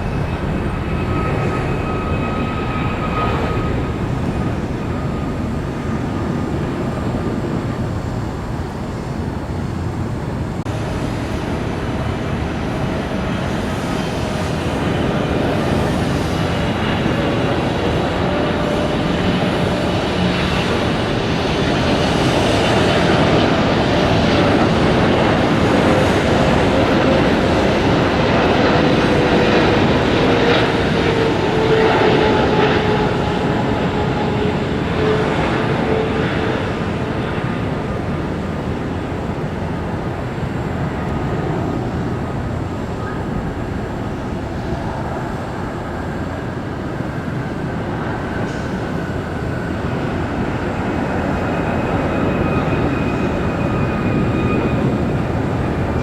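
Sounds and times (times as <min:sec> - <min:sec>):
jet airliner engines passing: 0:00.0 - 0:56.0.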